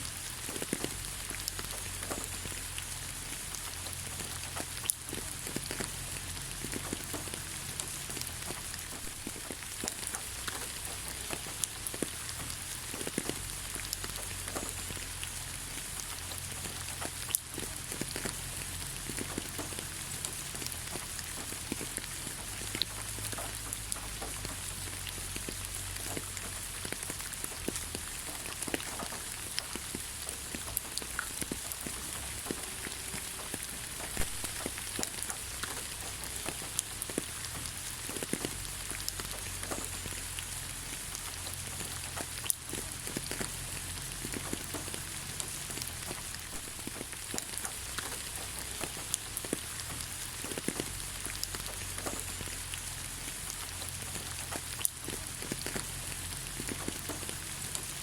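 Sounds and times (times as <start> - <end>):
rain falling on ground: 0.0 - 58.0.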